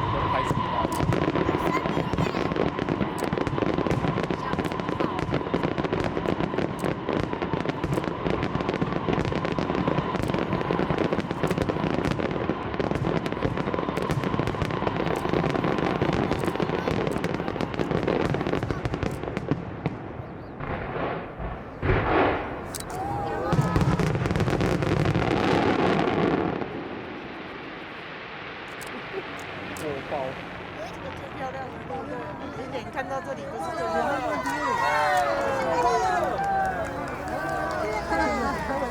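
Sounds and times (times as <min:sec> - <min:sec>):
fireworks crackling and bursting: 0:00.0 - 0:38.9.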